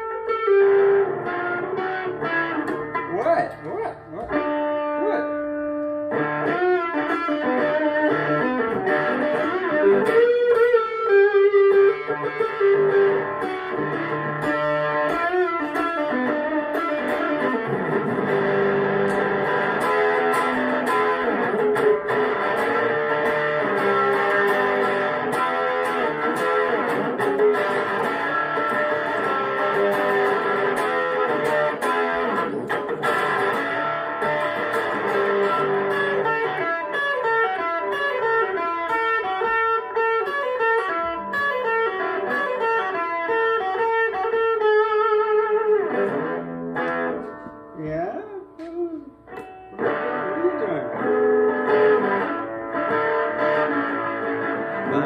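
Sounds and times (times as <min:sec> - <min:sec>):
electric guitar through amplifier: 0:00.0 - 0:55.0.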